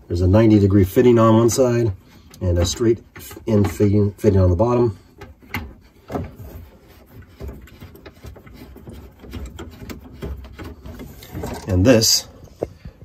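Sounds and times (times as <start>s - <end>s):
plastic rubbing: 0.0s - 13.0s.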